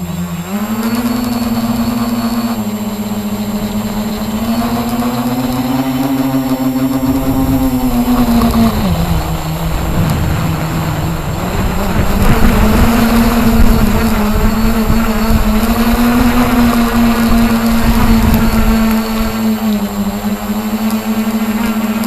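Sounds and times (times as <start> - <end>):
model helicopter droning: 0.0 - 22.0.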